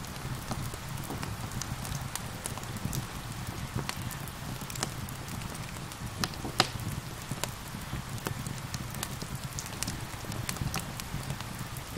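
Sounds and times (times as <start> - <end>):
rain pattering: 0.0 - 11.9
wood fire crackling and popping: 0.0 - 11.9.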